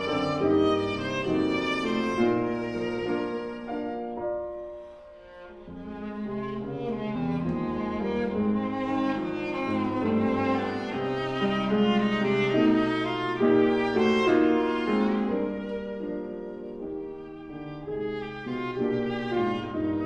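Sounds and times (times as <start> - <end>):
piano accompaniment: 0.0 - 20.0
viola melody: 0.0 - 20.0.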